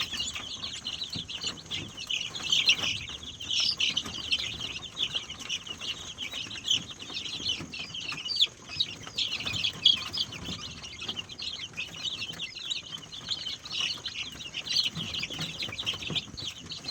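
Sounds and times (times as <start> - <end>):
chicks peeping and chirping: 0.0 - 16.9.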